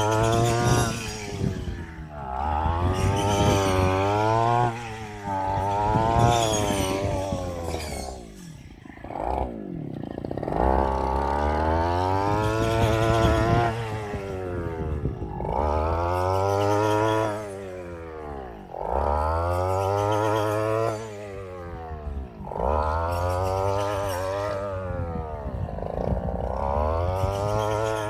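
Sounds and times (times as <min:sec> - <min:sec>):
machine engine revving: 0:00.0 - 0:28.0.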